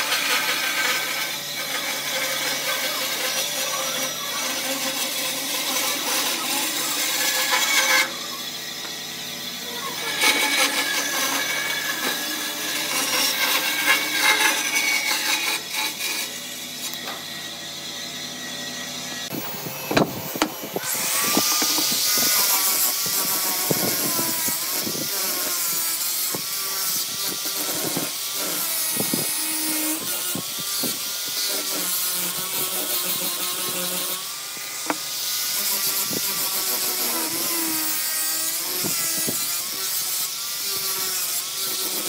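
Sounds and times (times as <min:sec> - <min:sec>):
angle grinder sanding wood: 0:00.0 - 0:42.0
bandsaw cutting wood: 0:00.0 - 0:42.0.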